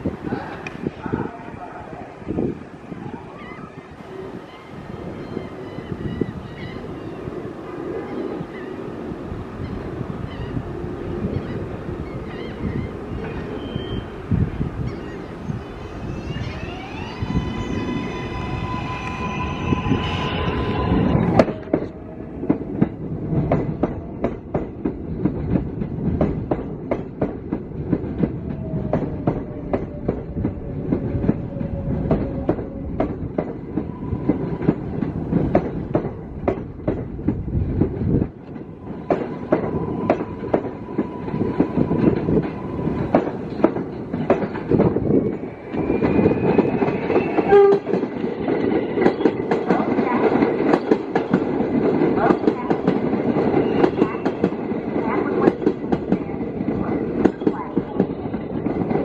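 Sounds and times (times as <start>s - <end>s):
train rumble: 0.0s - 59.0s
subway train wheels clicking: 4.0s - 59.0s.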